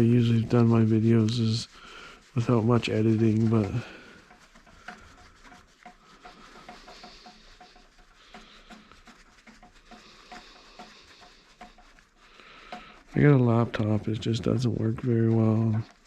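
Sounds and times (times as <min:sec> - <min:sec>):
faint rubbing: 0:00.0 - 0:16.0
light irregular clicks: 0:02.4 - 0:16.0.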